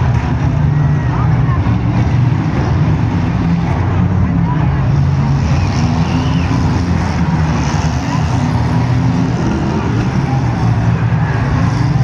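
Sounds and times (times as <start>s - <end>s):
car engines revving: 0.0s - 12.0s
crowd voices: 0.0s - 12.0s.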